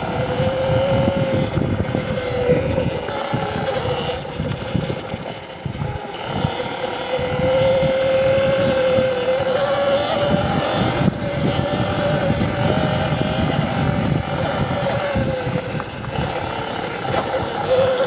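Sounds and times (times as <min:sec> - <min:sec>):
electric motorbike motor whining: 0:00.0 - 0:18.0.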